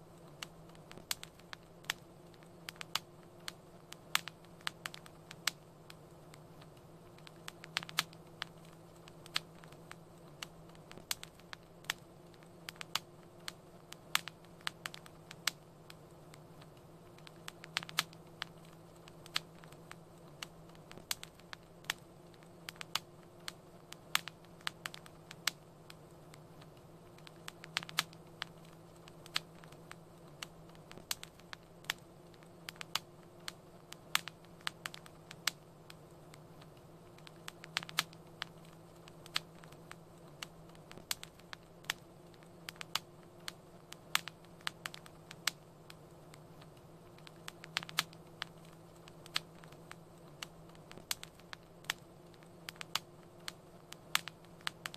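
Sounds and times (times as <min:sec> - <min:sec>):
fire crackling and popping: 0:00.0 - 0:54.9
low steady hum: 0:00.0 - 0:54.9.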